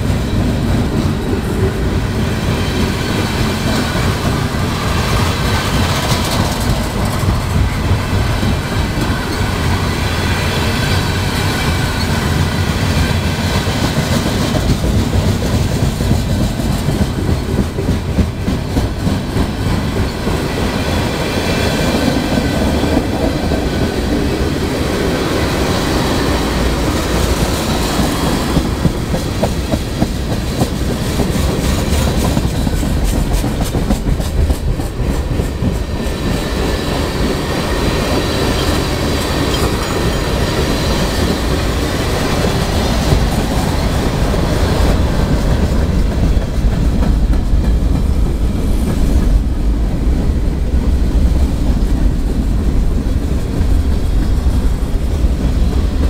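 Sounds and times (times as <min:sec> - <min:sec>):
train wheels clicking over rail joints: 0:00.0 - 0:56.0
wind buffeting microphone: 0:00.0 - 0:56.0.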